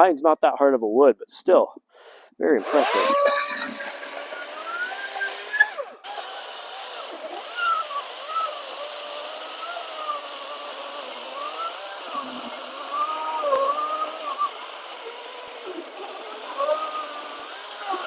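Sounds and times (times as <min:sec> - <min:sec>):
electric chainsaw cutting wood: 0:02.6 - 0:18.0.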